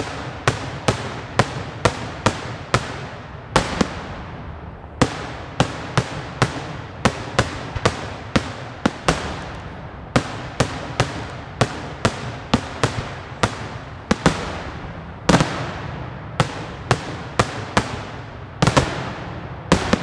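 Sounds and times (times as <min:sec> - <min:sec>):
fireworks bangs with echo: 0:00.0 - 0:20.0.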